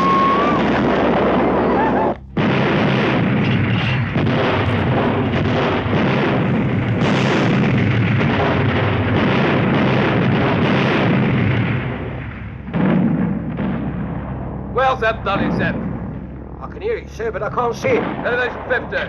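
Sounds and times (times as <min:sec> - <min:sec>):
explosions and artillery fire: 0:00.0 - 0:19.0.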